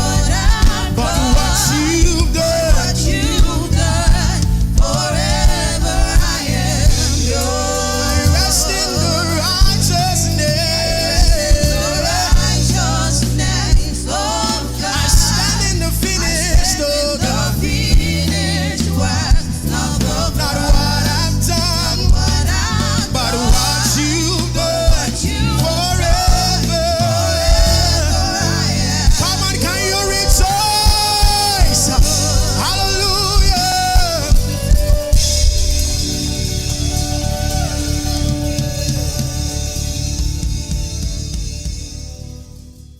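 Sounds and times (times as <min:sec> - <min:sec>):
person singing gospel: 0:00.0 - 0:42.4
band with bass keys and drums: 0:00.0 - 0:42.9.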